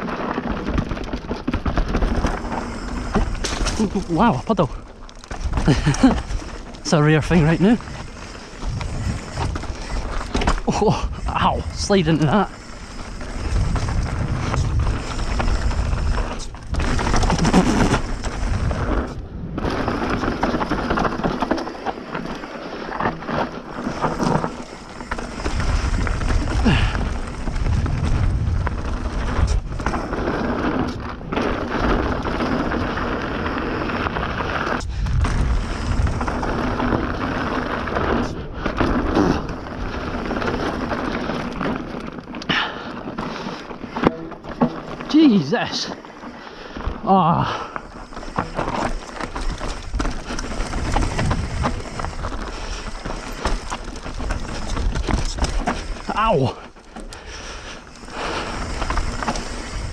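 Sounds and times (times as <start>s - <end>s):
bike rattling: 0.0s - 59.9s
bike tyres rumbling over dirt: 0.0s - 59.9s.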